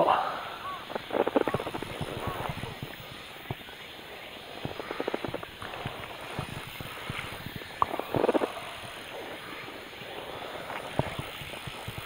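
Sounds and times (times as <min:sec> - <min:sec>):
hiss of wind and water: 0:00.0 - 0:12.0.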